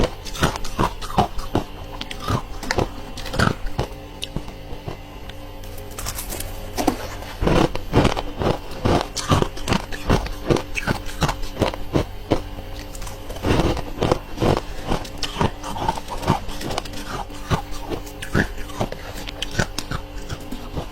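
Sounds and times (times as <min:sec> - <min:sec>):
ice crunching being chewed: 0:00.0 - 0:20.9.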